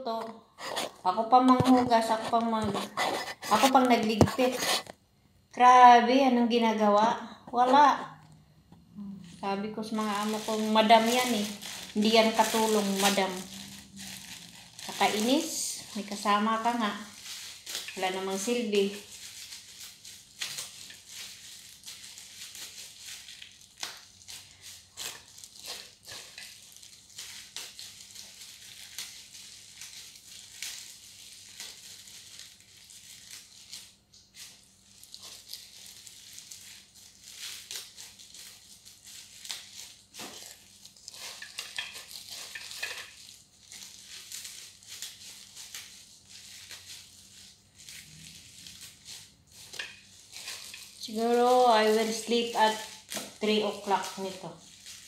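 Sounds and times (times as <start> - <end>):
herb sprigs rustling: 0.0 - 4.9, 9.0 - 55.0
plastic gloves crinkling: 0.0 - 55.0.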